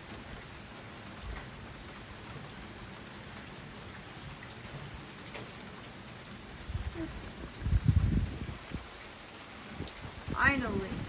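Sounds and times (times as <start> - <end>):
steady rainfall: 0.0 - 11.0.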